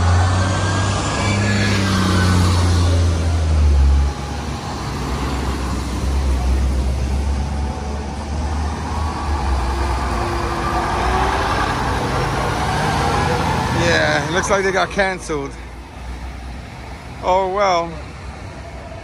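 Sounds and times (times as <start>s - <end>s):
bus passing close by: 0.0s - 19.0s
diesel engine rumbling: 0.0s - 19.0s.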